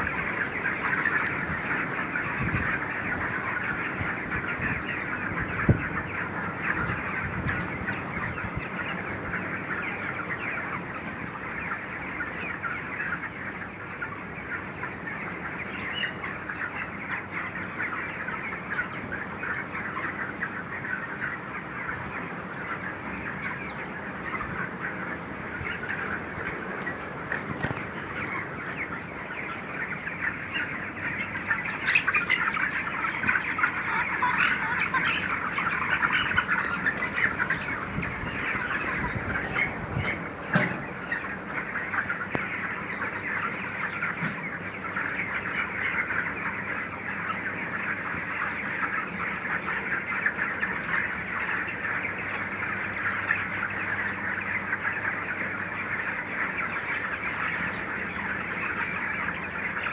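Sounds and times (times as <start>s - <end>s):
chickens calling: 0.0s - 59.9s.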